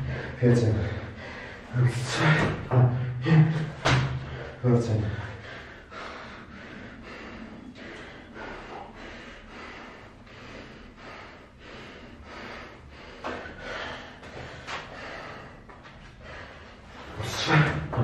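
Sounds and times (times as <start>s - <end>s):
man breathing hard: 0.0s - 18.0s.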